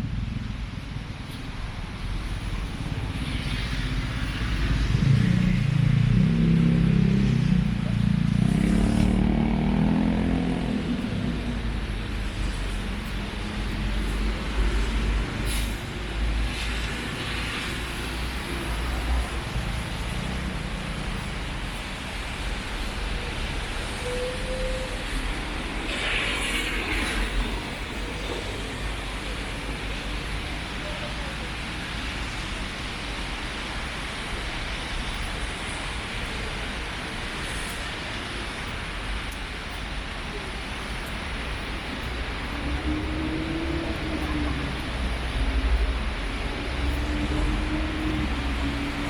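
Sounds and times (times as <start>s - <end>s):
motor vehicle rumble: 0.0s - 49.0s
steady rain hiss: 0.0s - 49.0s.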